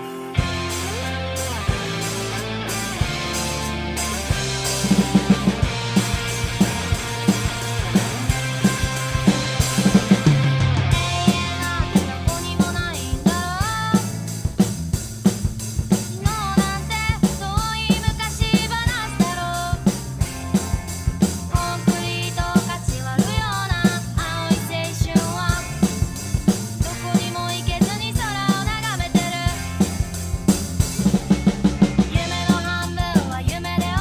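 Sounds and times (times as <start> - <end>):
drum kit beat: 0.0 - 34.0
rock band music: 0.0 - 34.0.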